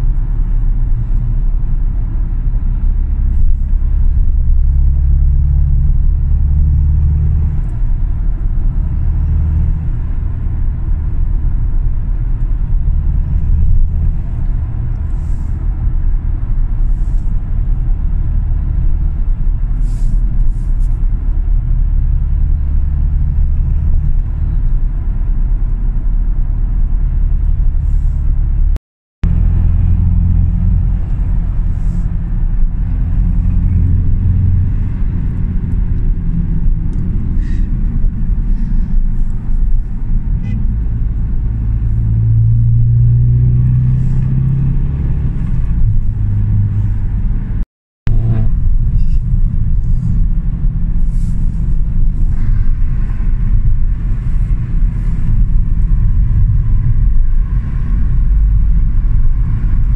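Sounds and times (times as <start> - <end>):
car engine: 0.0 - 59.9
road rumble: 0.0 - 59.9.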